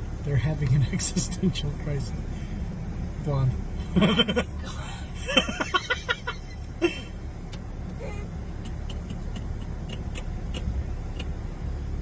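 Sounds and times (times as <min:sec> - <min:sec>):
car engine and cabin rumble: 0:00.0 - 0:12.0.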